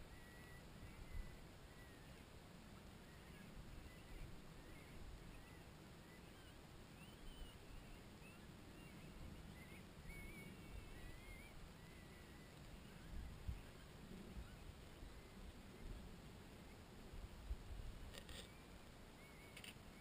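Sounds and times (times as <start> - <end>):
faint high chirps: 0.0 - 16.8, 18.1 - 20.0
faint low rumble: 0.0 - 20.0.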